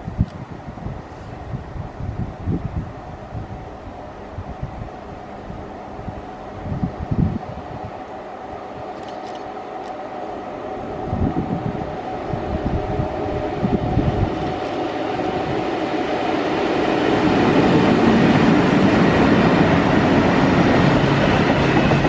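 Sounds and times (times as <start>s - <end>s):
diesel locomotive passing: 1.7s - 22.0s.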